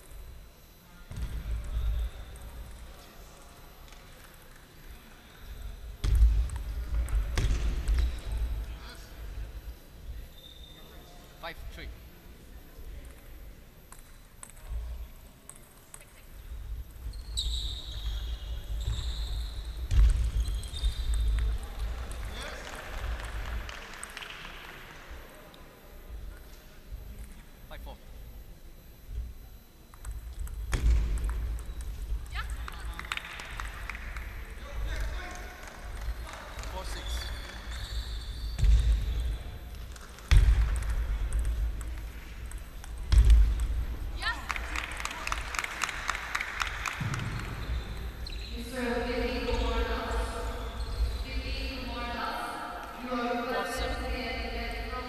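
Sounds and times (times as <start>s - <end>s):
sports hall noise: 0.0s - 55.0s.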